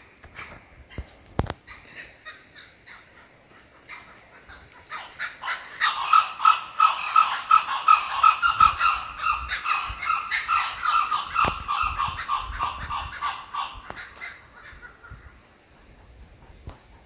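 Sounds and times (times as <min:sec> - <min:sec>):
kookaburra laughing call: 0:01.7 - 0:15.4.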